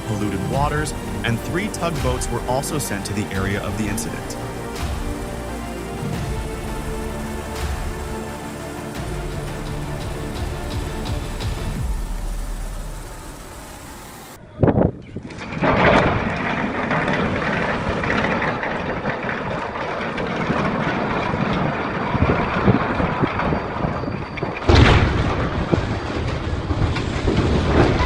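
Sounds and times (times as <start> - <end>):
heavy crash: 0.0 - 14.5, 15.3 - 23.6
rushing wind and water: 0.0 - 28.0.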